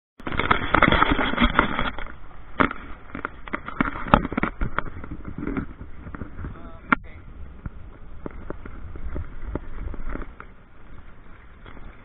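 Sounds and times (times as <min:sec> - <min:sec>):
microphone handling noise: 0:00.2 - 0:11.0.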